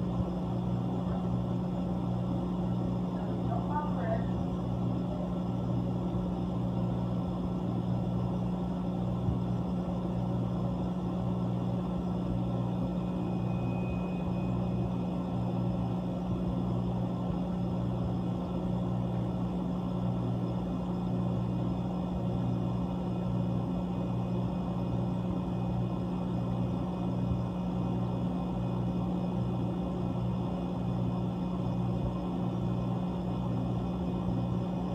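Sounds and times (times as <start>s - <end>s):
compressor humming: 0.0s - 34.9s.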